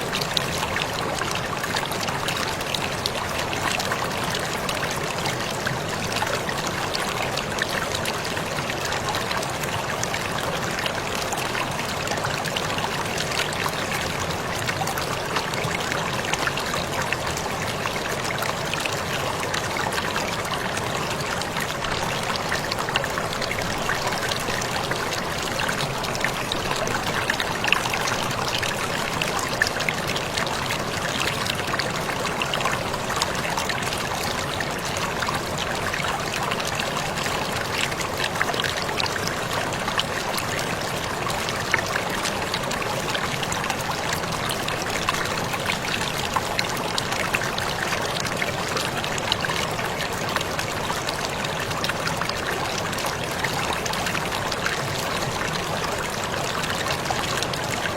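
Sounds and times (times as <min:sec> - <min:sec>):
water splashing and trickling: 0:00.0 - 0:57.9.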